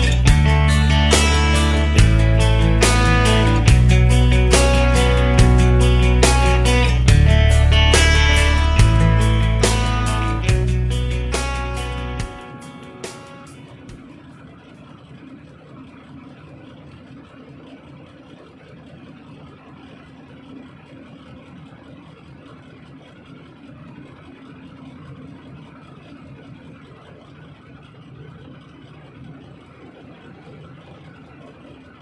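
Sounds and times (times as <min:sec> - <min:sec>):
large diesel engine running: 0:00.0 - 0:32.0.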